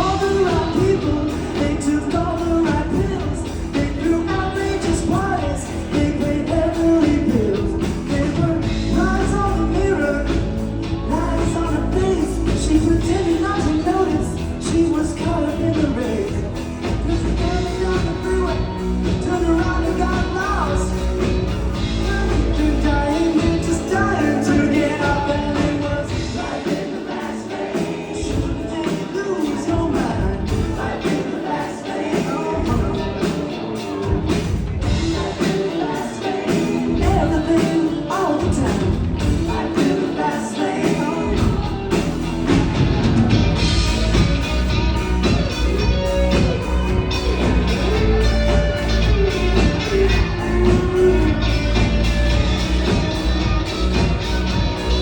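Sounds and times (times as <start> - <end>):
lead singer: 0.0 - 55.0
live rock band playing: 0.0 - 55.0.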